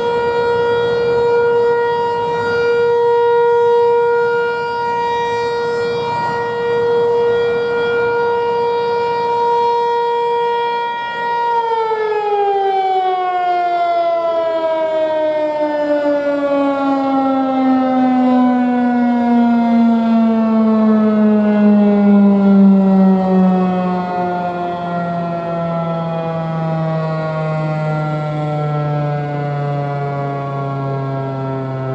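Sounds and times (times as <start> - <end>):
civil defense siren winding down: 0.0 - 31.9.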